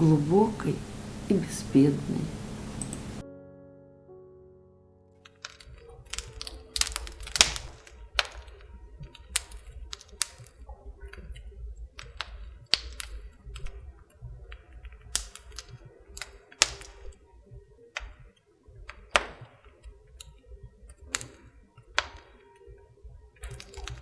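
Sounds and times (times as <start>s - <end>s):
wood fire crackling: 0.0s - 3.2s, 5.1s - 24.0s
low steady hum: 0.0s - 3.4s, 4.1s - 24.0s.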